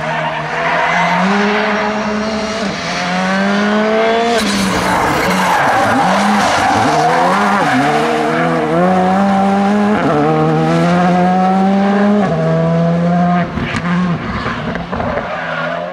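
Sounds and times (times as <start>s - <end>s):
rally car engine accelerating: 0.0s - 15.8s.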